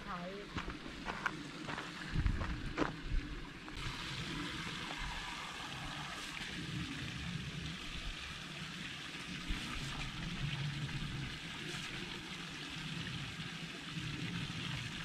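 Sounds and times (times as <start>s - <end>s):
water running into trough: 0.2s - 15.0s.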